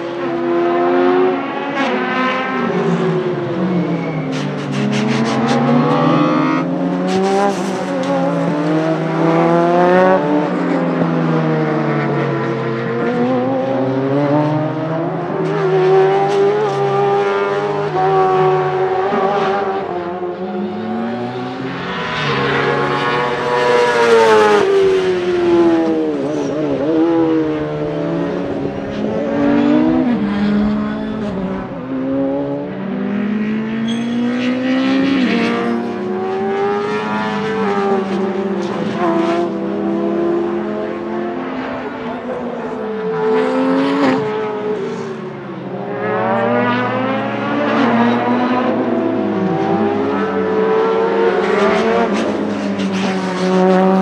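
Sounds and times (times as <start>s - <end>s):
race car engine revving: 0.1s - 54.0s.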